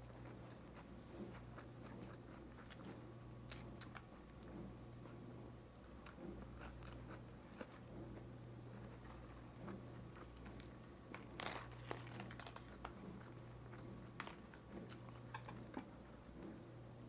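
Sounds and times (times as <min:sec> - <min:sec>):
chewing with crunches: 0:00.0 - 0:16.7
low electrical hum: 0:00.0 - 0:17.0.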